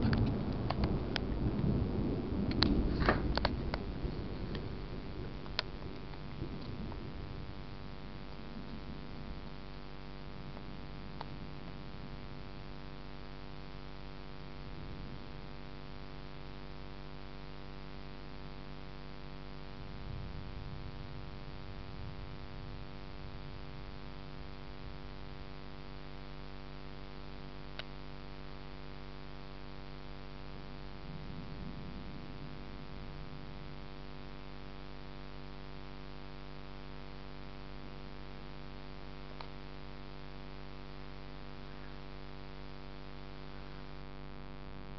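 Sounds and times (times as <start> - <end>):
electrical hum with hiss: 0.0 - 44.9
soft low rumbles: 0.0 - 44.9.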